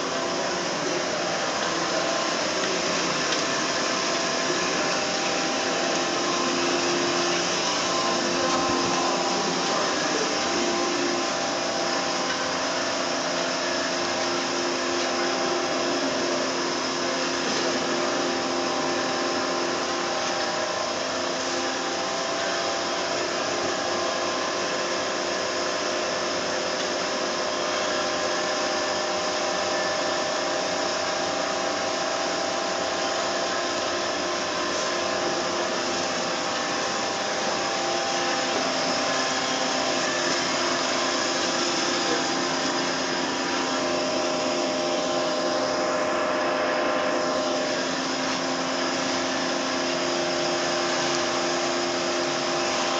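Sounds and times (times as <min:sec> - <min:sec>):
band saw whirring: 0:00.0 - 0:24.8, 0:29.6 - 0:52.9.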